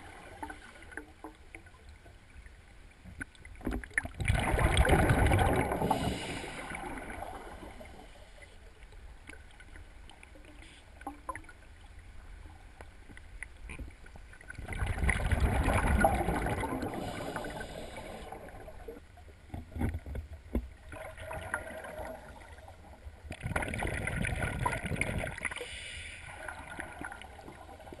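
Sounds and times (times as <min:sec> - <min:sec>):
underwater bubbles gurgling: 0:03.1 - 0:08.2, 0:08.8 - 0:28.0.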